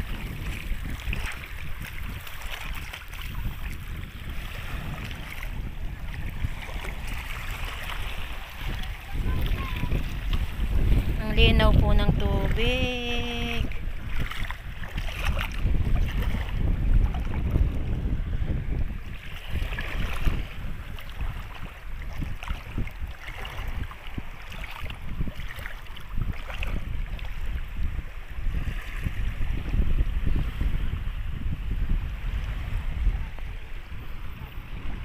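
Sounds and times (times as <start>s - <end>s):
small waves lapping: 0.0s - 35.0s
wind buffeting microphone: 0.0s - 35.0s.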